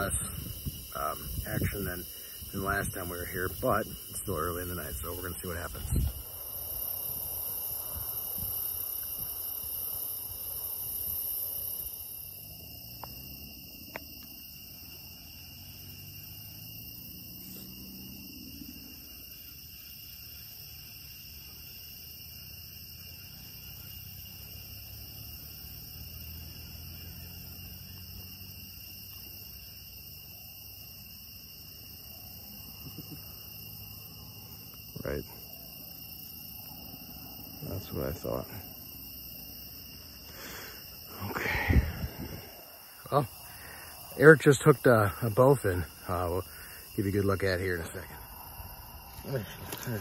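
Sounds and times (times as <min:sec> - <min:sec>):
night insects trilling: 0:00.0 - 0:50.0.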